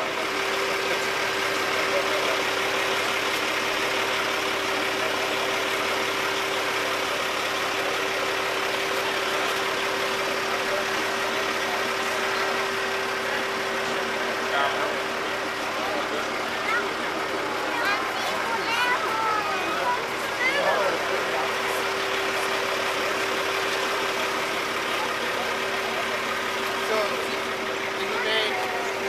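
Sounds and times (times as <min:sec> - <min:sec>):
fire engine idling: 0:00.0 - 0:29.0.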